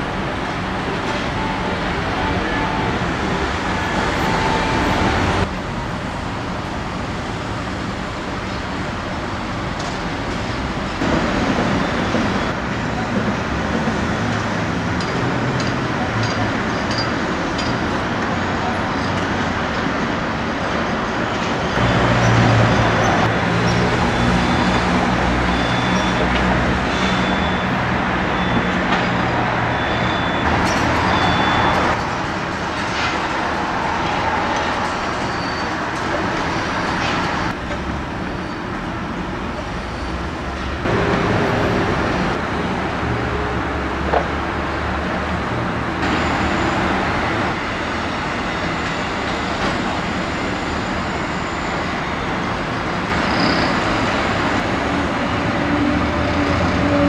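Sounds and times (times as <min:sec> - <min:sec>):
traffic noise: 0:00.0 - 0:57.0.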